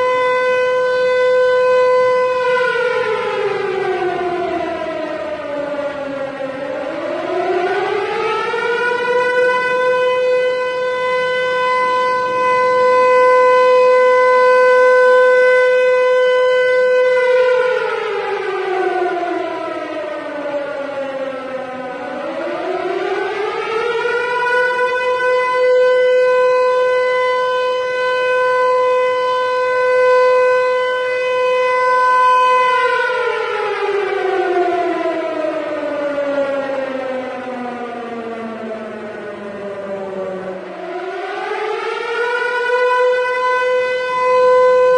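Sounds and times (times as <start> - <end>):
civil defense siren wailing: 0.0 - 44.9.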